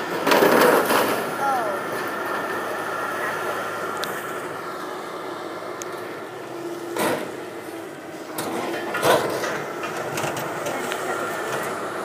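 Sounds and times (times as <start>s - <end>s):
demolition machinery running: 0.0s - 12.0s.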